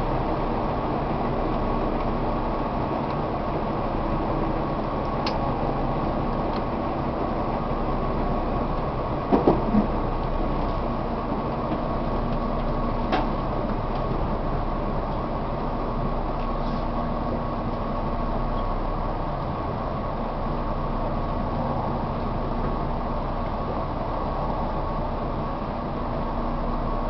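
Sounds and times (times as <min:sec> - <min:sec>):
train rumble from inside: 0:00.0 - 0:27.0.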